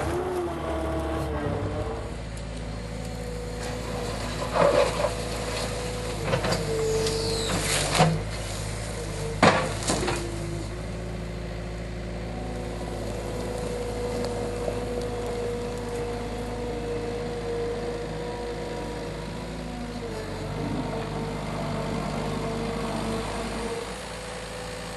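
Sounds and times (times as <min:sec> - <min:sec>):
skid steer engine running: 0:00.0 - 0:24.9.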